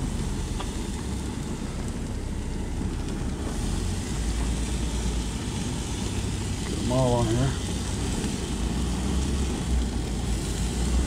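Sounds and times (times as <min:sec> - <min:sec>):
gas grill hissing and rumbling: 0:00.0 - 0:11.0.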